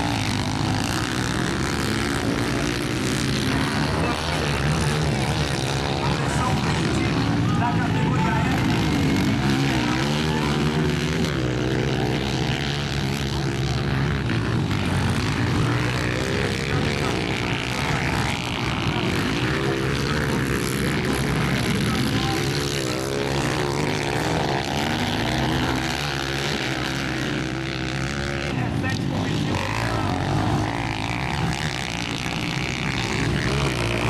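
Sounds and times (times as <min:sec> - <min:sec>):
motocross motorcycles revving: 0:00.0 - 0:34.0.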